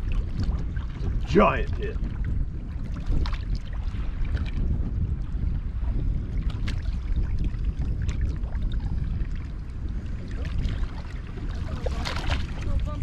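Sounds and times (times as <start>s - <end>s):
water lapping against boat hull: 0.0s - 13.0s
wind rumbling on microphone: 0.0s - 13.0s.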